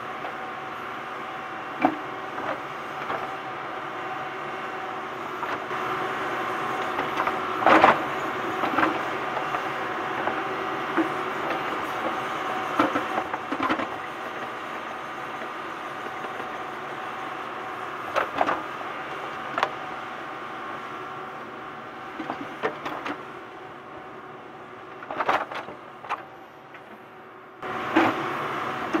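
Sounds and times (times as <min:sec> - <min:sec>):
excavator engine and hydraulic drone: 0:00.0 - 0:29.0.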